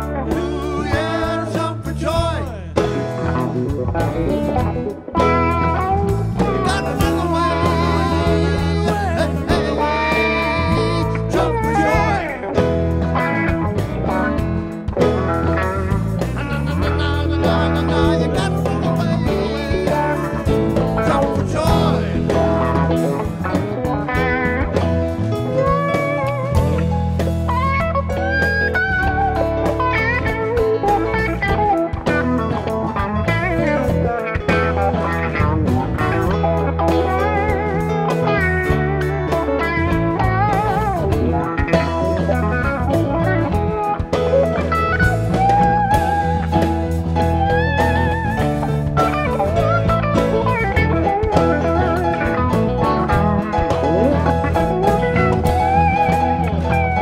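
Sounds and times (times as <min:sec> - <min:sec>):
bass guitar: 0:00.0 - 0:57.0
drum kit: 0:00.0 - 0:57.0
electric guitar lead: 0:00.0 - 0:57.0.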